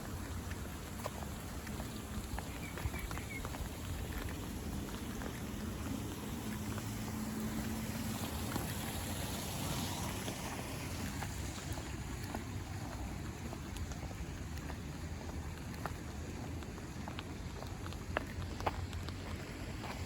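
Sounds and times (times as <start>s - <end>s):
steady rain: 0.0s - 20.0s
tyre hiss on wet road: 0.0s - 20.0s
vehicle engine hum: 0.0s - 20.0s.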